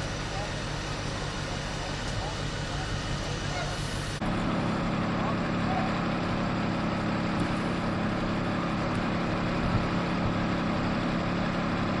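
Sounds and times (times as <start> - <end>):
fire truck engine humming: 0.0 - 12.0.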